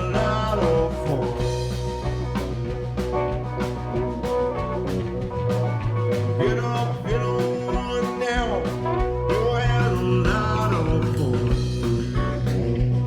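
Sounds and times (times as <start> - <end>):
blues-rock band playing: 0.0 - 13.0
electric guitar bending notes: 0.0 - 13.0.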